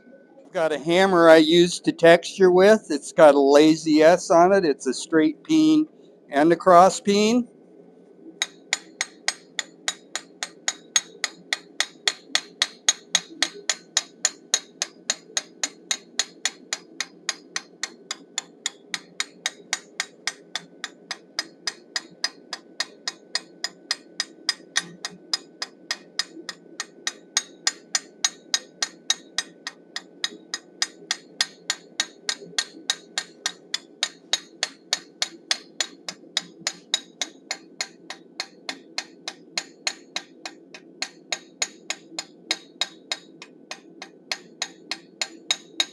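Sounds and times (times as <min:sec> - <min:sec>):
hammer striking steel on anvil: 0:08.4 - 0:45.9.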